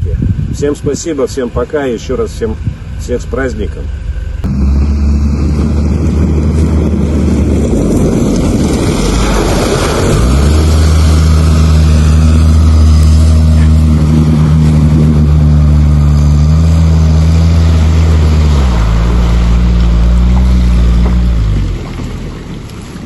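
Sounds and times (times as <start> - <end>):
all-terrain vehicle engine running: 0.0 - 23.0.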